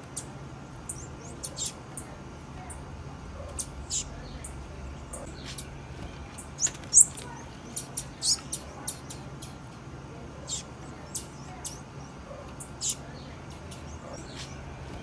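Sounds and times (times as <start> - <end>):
bird chirping: 0.0 - 14.7.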